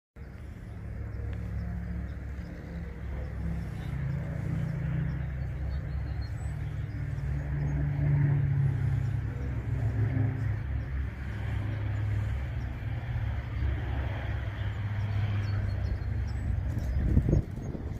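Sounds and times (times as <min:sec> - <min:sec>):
aircraft engines droning: 0:00.2 - 0:17.9.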